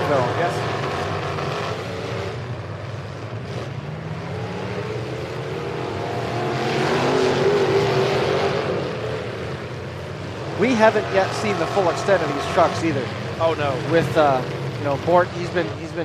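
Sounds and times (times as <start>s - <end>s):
pickup truck engines revving: 0.0s - 16.0s.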